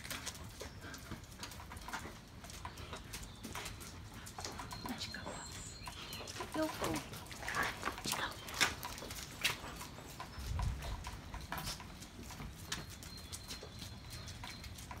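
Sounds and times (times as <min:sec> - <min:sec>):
dog claws clicking on concrete: 0:00.0 - 0:05.2, 0:05.8 - 0:15.0.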